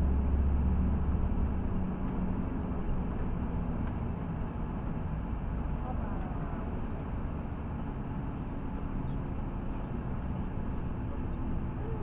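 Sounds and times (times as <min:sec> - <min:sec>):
bus engine hum: 0:00.0 - 0:12.0
road rumble: 0:00.0 - 0:12.0.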